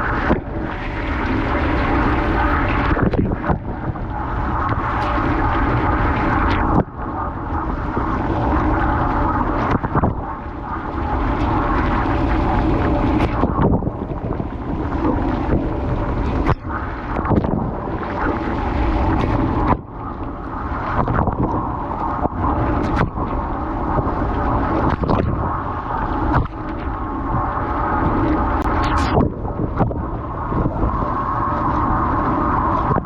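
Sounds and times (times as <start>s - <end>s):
water spraying and sloshing: 0.0s - 33.0s.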